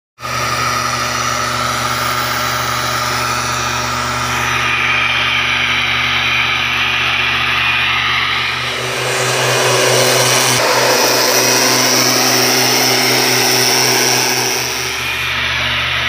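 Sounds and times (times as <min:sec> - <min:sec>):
two-stroke engine running: 0:00.2 - 0:16.0.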